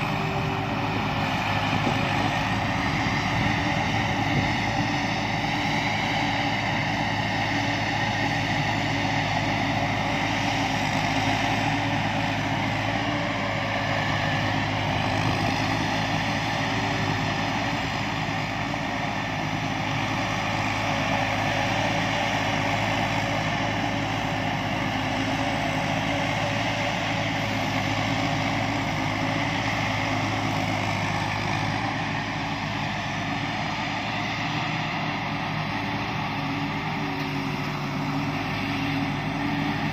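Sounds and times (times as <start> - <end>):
combine harvester engine drone: 0.0 - 39.9
machinery noise: 0.0 - 39.9.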